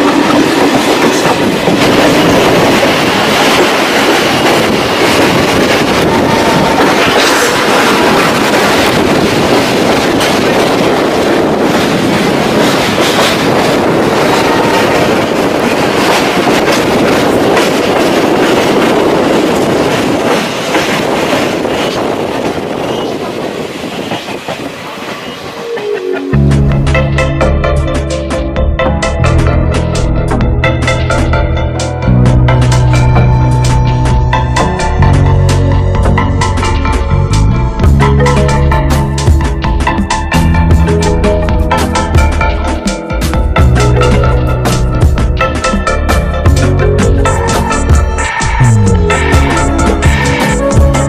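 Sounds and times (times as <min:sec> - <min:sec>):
train rattling on rails: 0:00.0 - 0:51.0.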